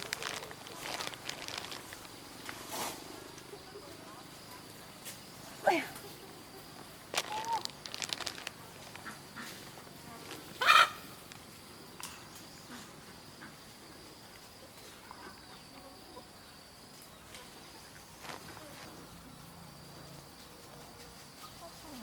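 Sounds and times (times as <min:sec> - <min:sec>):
faint high insect drone: 0:00.0 - 0:22.0.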